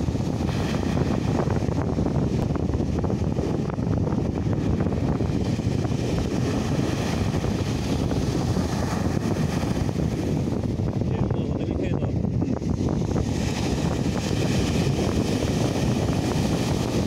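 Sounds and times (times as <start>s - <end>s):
sea waves breaking on shore: 0.0s - 17.0s
wind blowing on microphone: 0.0s - 17.0s.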